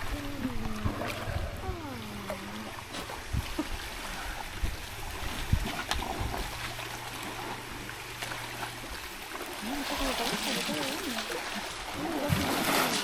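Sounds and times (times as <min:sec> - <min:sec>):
water trickling and gurgling: 0:00.0 - 0:13.0.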